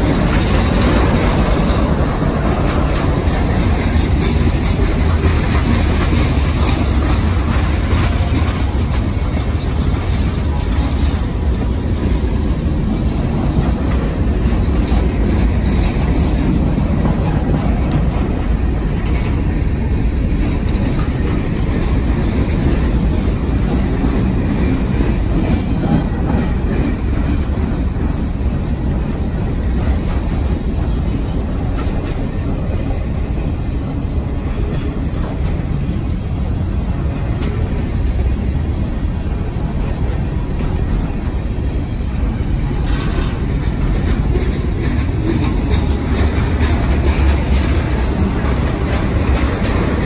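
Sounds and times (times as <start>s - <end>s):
freight train wheels rumbling on rails: 0.0s - 50.0s.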